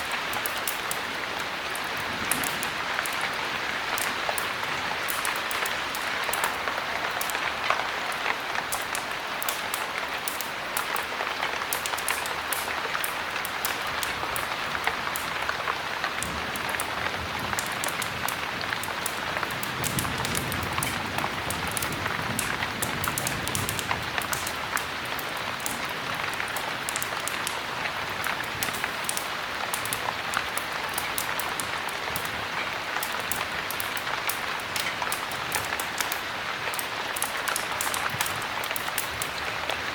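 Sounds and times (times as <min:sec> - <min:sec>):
heavy rain with ticking drops: 0:00.0 - 0:39.9.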